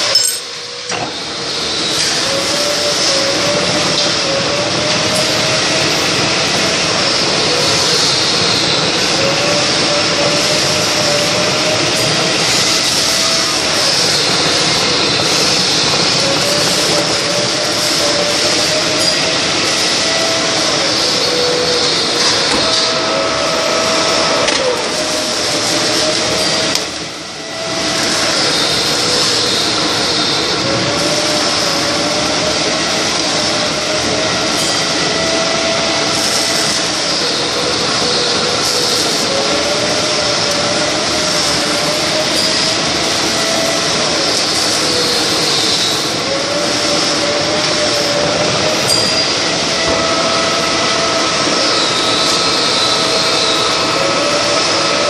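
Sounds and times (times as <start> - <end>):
milling machine cutting metal: 0.0 - 55.0.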